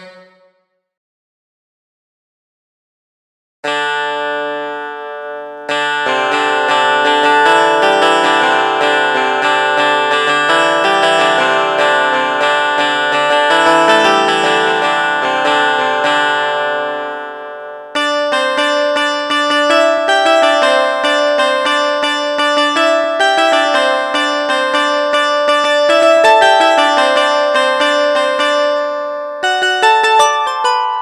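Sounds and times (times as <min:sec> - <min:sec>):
bright plucked repeated notes: 0:00.0 - 0:00.6, 0:03.7 - 0:31.0
keyboard plucked guitar-like notes: 0:03.6 - 0:31.0.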